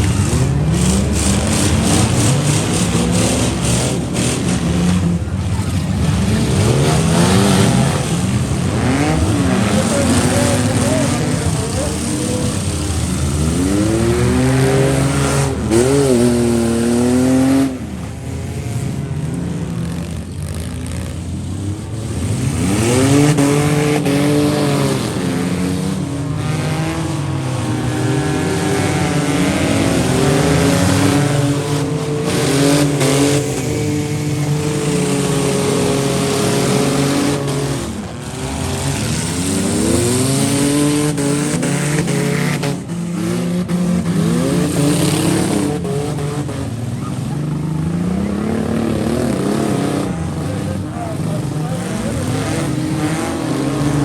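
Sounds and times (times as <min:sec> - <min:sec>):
vehicle engines revving: 0:00.0 - 0:54.0.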